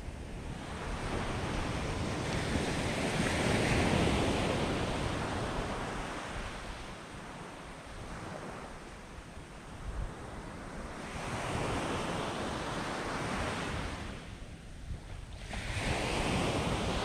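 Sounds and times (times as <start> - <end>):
small waves breaking on sand: 0.3 - 17.0.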